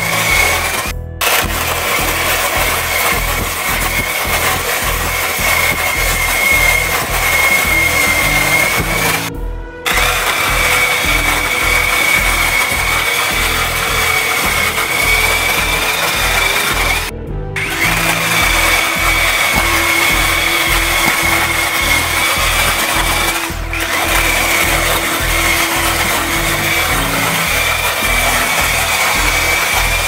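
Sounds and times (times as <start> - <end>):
mini chainsaw cutting wood: 0.0 - 9.3, 9.9 - 30.0
background music with beat: 0.0 - 30.0.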